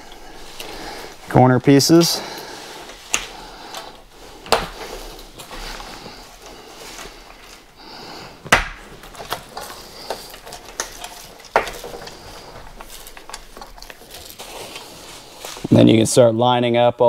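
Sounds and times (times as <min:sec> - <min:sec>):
screen material rustling: 0:00.0 - 0:16.2.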